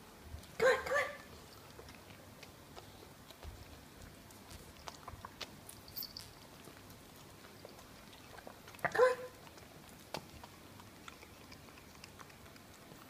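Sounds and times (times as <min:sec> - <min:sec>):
dog licking meat: 0:01.3 - 0:13.0.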